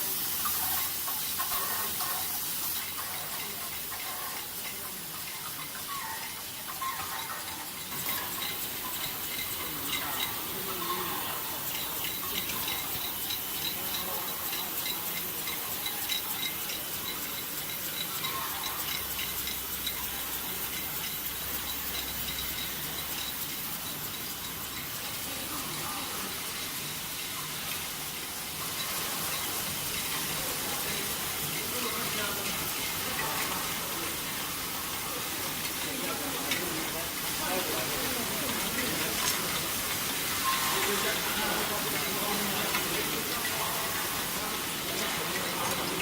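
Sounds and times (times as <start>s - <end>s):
machine hiss: 0.0s - 46.0s.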